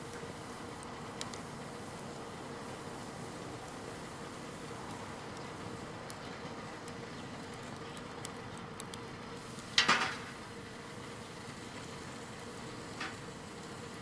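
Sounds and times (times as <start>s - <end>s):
fire snapping: 0.0s - 14.0s
wood fire crackling: 0.0s - 14.0s.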